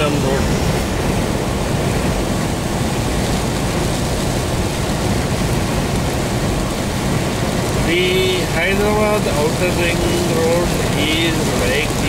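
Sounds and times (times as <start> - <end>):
car engine and road noise: 0.0 - 12.0
tyres hissing on wet road: 0.0 - 12.0.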